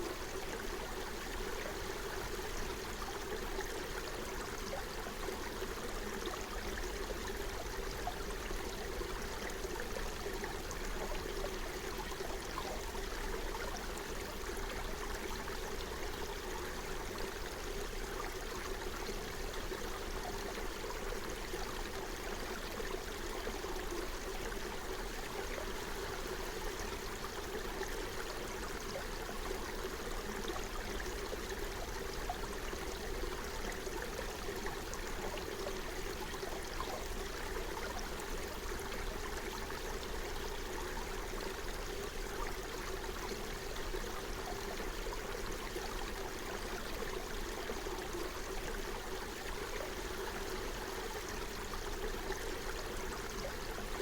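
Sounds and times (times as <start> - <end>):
stream flowing water: 0.0 - 54.0.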